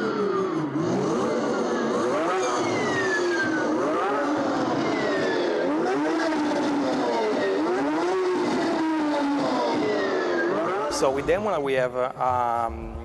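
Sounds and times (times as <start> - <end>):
synthetic engine sound revving: 0.0 - 11.6.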